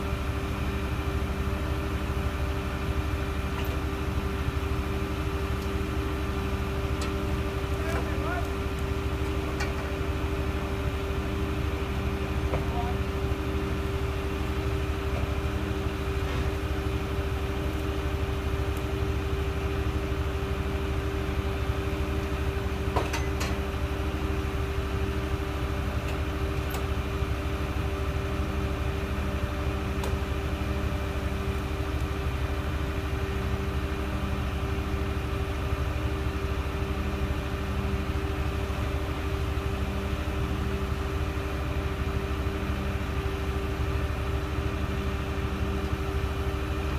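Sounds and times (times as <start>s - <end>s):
heavy machinery engine humming: 0.0s - 46.9s.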